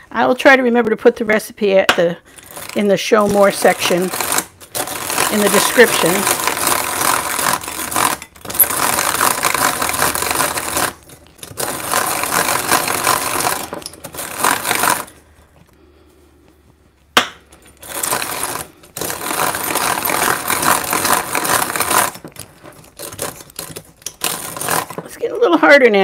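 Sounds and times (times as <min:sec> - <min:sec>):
egg beater rattling in bowl: 0:02.3 - 0:15.3, 0:17.7 - 0:26.0.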